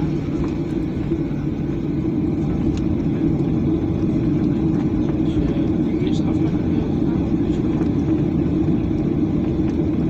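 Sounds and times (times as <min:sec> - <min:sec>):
jet engine and cabin rumble: 0:00.0 - 0:10.0.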